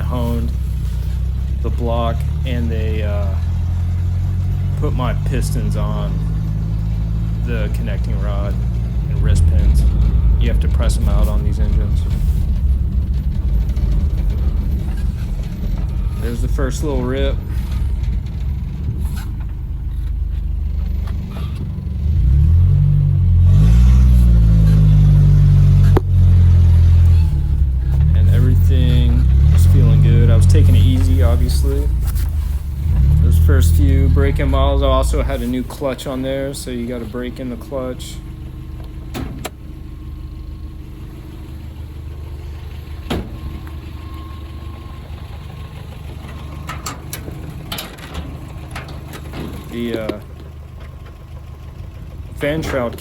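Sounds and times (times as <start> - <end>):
truck engine accelerating: 0.0 - 53.0.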